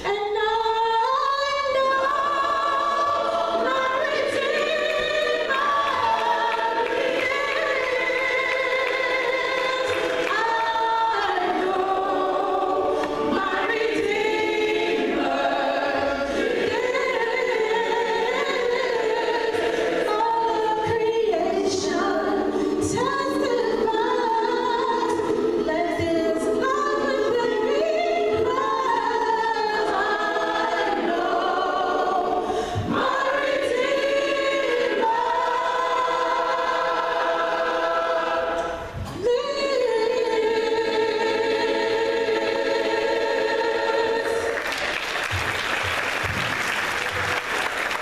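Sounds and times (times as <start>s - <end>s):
choir singing a cappella: 0.0s - 48.0s.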